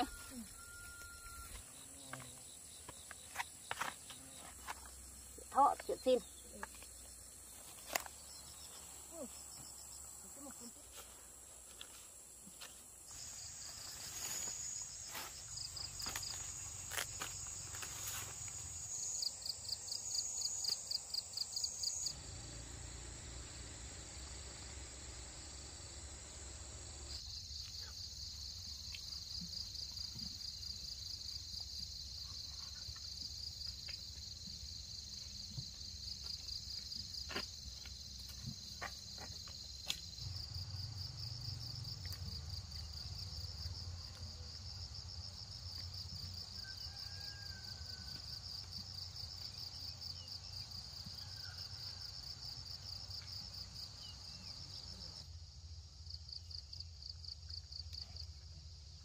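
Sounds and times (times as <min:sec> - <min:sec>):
insects chirping and trilling: 0:00.0 - 0:59.0.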